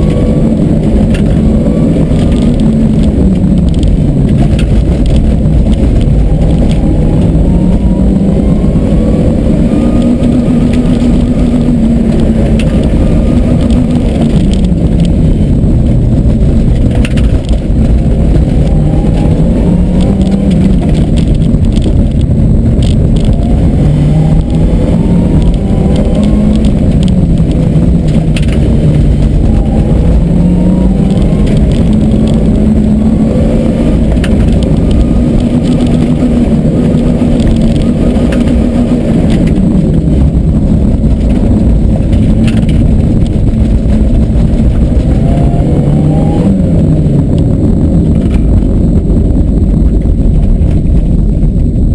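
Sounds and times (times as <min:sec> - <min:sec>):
car engine under hard throttle: 0:00.0 - 0:51.9
wind and tyre noise: 0:00.0 - 0:51.9.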